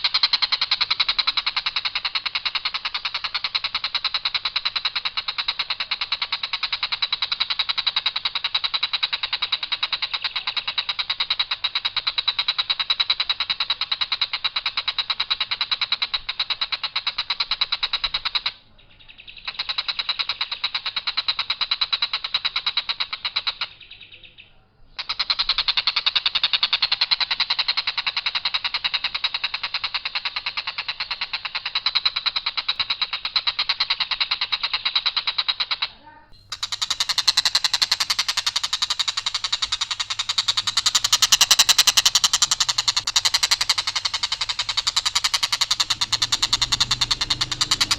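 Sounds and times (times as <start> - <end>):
bird rattling call: 0.0 - 24.2, 24.9 - 47.9.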